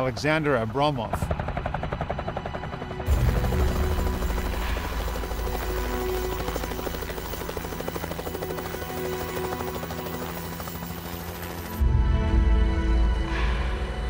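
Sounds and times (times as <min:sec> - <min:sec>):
background music: 0:00.0 - 0:14.0
helicopter rotor and engine: 0:00.0 - 0:14.0.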